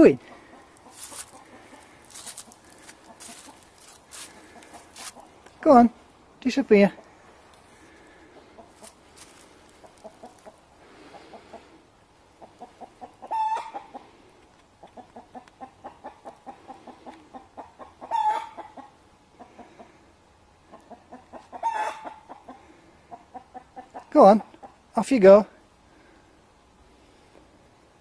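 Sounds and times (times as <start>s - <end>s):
hens clucking: 0.0s - 5.6s, 6.7s - 24.9s.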